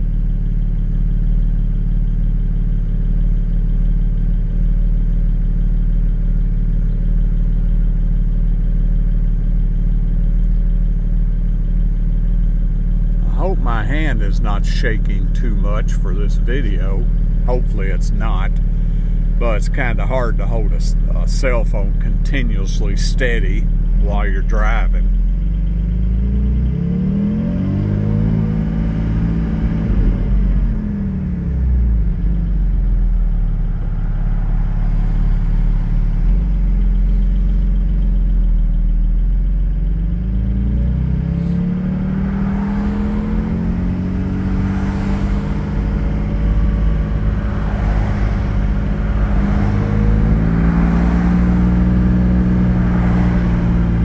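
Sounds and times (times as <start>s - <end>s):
car engine: 0.0s - 54.0s.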